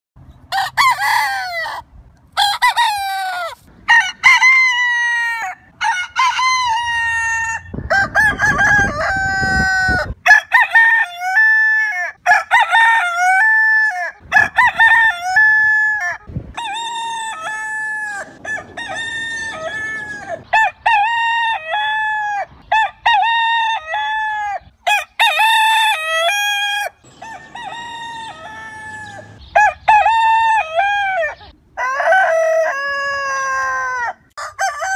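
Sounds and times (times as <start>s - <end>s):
rooster crowing: 0.5s - 1.8s, 2.4s - 34.9s.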